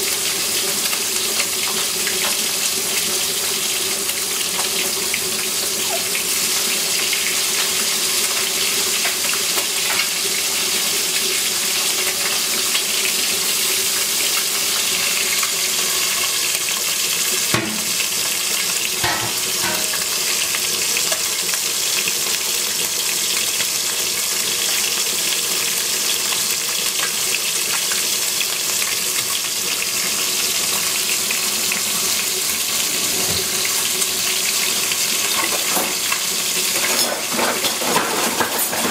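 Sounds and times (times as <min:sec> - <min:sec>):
wings sizzling in hot oil: 0:00.0 - 0:38.9.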